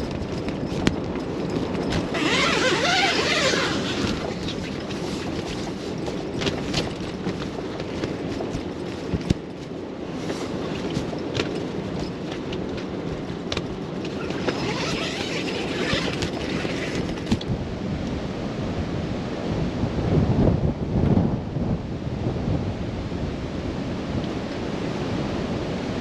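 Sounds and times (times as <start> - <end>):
blizzard wind buffeting microphone: 0.0 - 26.0.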